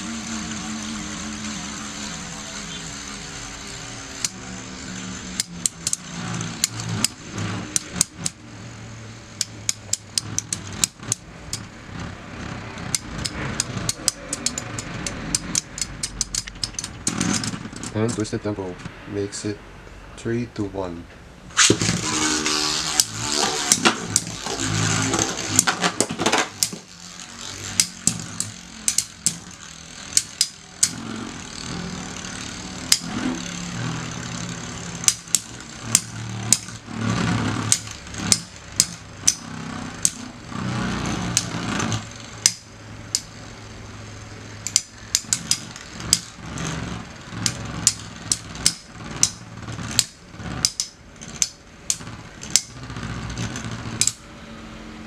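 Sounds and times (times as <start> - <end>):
spinning tops clashing: 0.0 - 18.3, 21.5 - 54.2
spinning tops whirring: 0.0 - 19.0, 21.4 - 55.0.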